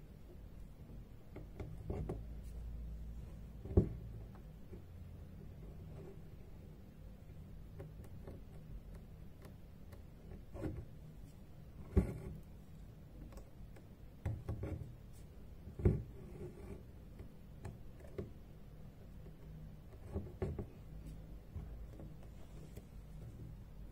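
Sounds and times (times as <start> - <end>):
low steady room hum: 0.0 - 23.9.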